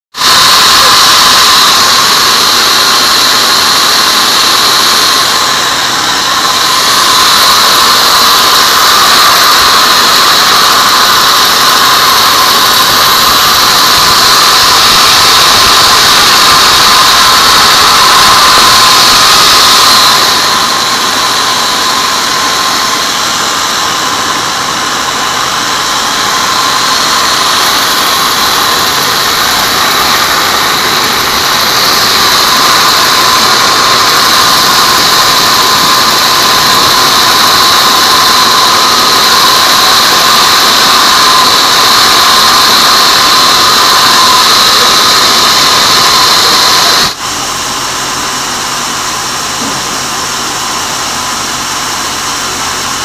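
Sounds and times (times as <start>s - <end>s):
band saw blade cutting wood: 0.1s - 53.0s
steady machine hum: 0.1s - 53.0s.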